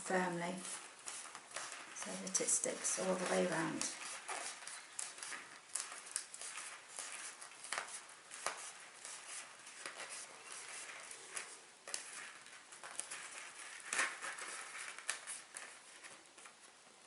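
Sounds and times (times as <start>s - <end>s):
paper plates rustling: 0.0s - 16.7s.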